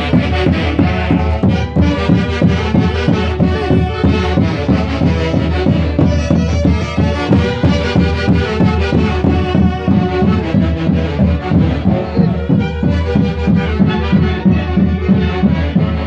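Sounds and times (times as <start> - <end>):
orchestra playing festival music: 0.0 - 16.0.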